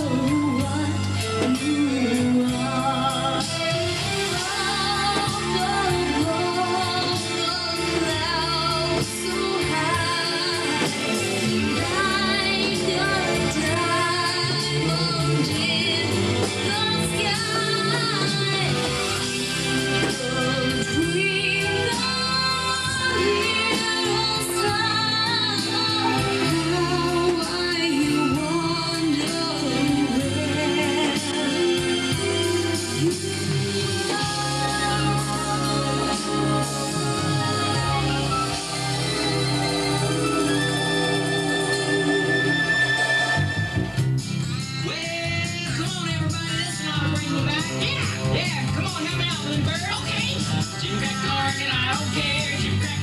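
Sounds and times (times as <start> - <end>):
woman singing with vibrato: 0.0 - 43.8
pop band music: 0.0 - 53.0.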